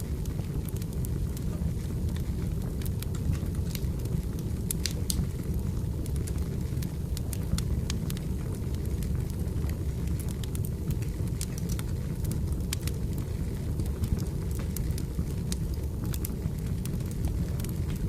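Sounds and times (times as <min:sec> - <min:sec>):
firewood crackles and pops: 0:00.0 - 0:18.0
low rumble of flames: 0:00.0 - 0:18.0.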